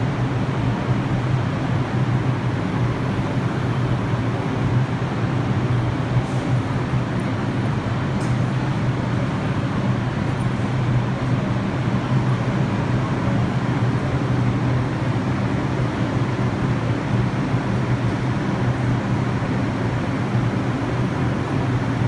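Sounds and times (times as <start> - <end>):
subway train humming: 0.0 - 22.0.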